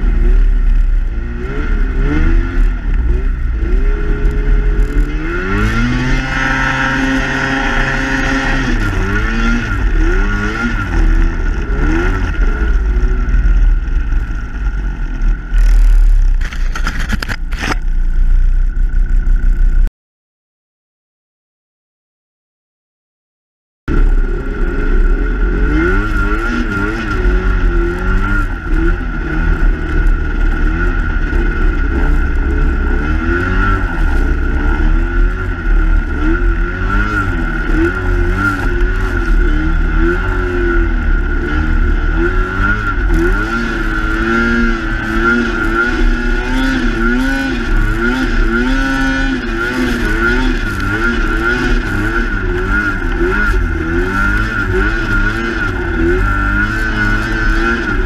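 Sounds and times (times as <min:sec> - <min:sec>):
snowmobile engine revving: 0:00.0 - 0:17.8, 0:23.9 - 0:58.0.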